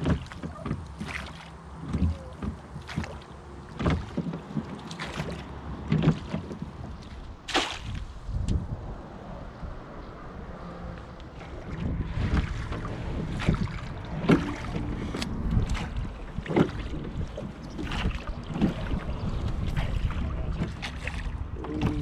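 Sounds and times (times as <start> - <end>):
oars knocking and splashing: 0.0 - 8.6, 11.0 - 22.0
wind rumble on microphone: 3.8 - 22.0.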